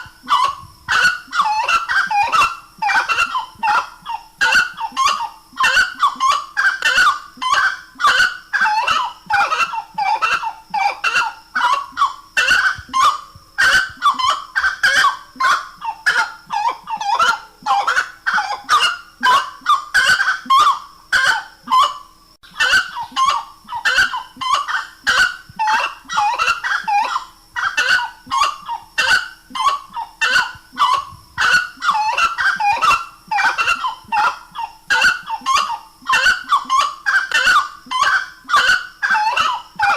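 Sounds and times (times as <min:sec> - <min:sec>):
bird calling rapidly: 0:00.0 - 0:39.9.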